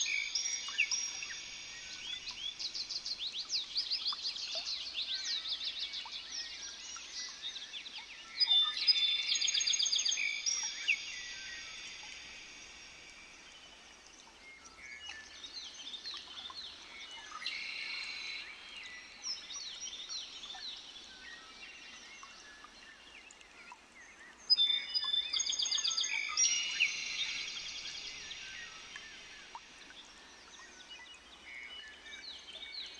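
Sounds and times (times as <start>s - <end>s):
birds singing and chirping: 0.0s - 13.0s, 14.5s - 32.9s.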